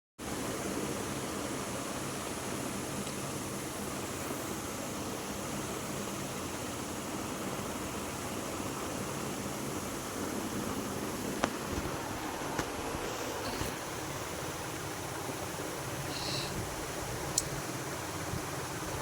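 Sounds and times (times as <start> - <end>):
steady hiss: 0.2 - 19.0.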